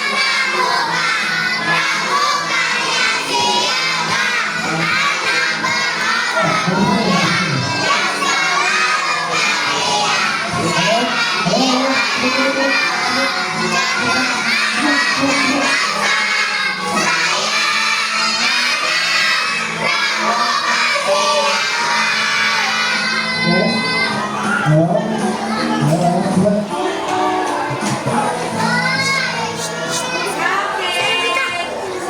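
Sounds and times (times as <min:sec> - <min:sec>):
children talking and shouting: 0:00.0 - 0:32.0.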